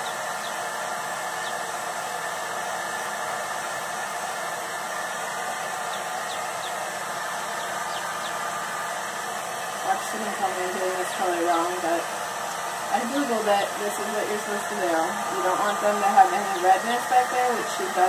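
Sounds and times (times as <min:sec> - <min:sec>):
hair dryer blowing air: 0:00.0 - 0:18.0.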